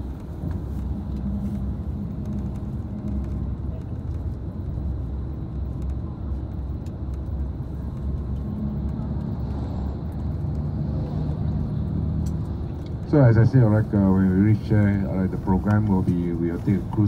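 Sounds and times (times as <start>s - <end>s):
coach engine rumble: 0.0s - 17.0s
road noise: 0.0s - 17.0s.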